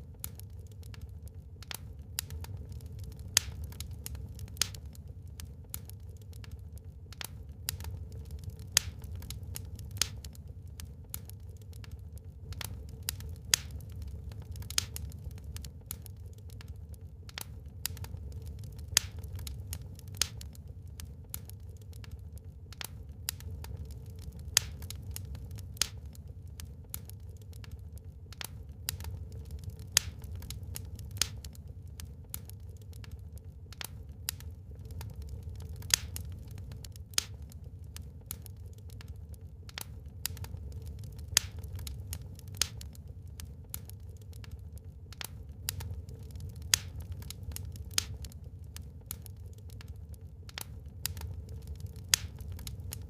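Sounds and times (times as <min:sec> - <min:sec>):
fire snapping and popping: 0:00.0 - 0:53.0
wood fire crackling: 0:00.0 - 0:53.0.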